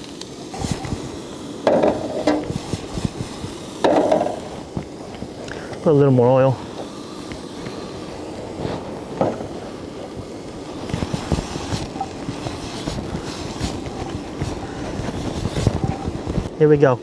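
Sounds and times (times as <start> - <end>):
garlic and onion sizzling in oil: 0.0 - 16.6
gas burner rushing: 0.0 - 17.0.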